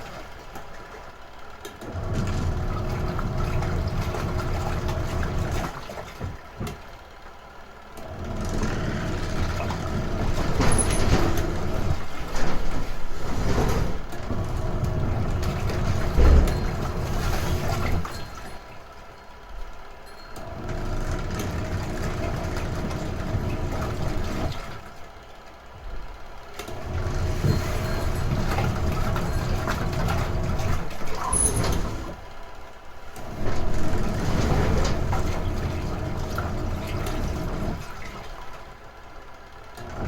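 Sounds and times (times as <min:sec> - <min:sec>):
washing machine churning water: 0:00.0 - 0:40.0.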